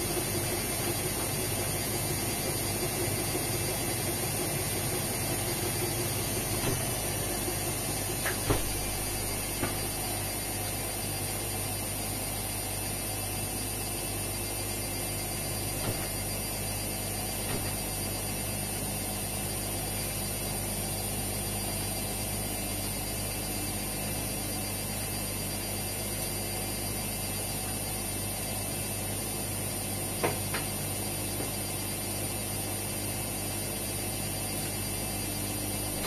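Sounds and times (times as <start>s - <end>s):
washing machine hum: 0.0s - 36.0s.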